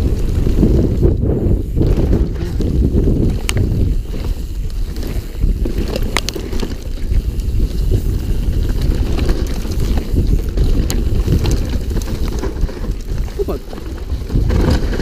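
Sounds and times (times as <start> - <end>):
bike tyres rumbling on dirt trail: 0.0 - 15.0
wind buffeting microphone: 0.0 - 15.0.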